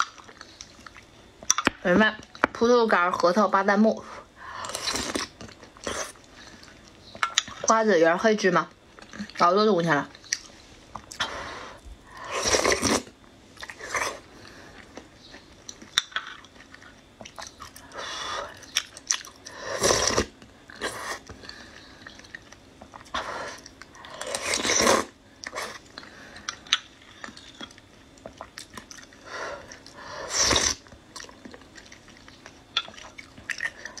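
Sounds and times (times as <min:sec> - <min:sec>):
person chewing with crunches: 0:00.0 - 0:01.6, 0:04.6 - 0:07.7, 0:08.8 - 0:34.0.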